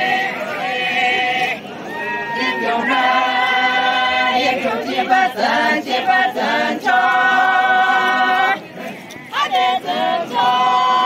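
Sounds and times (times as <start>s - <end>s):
women singing unaccompanied: 0.0s - 8.6s, 9.3s - 11.0s.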